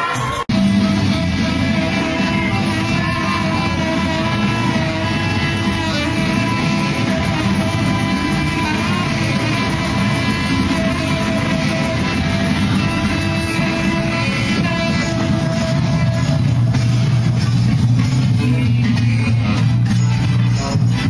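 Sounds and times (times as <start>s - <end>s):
saxophone playing: 0.0s - 17.5s
loud electronic music: 0.0s - 21.0s.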